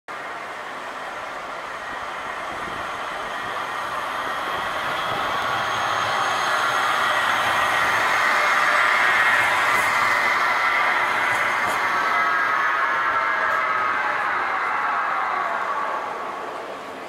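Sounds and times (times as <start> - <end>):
electric tram passing on rails: 0.1 - 17.0.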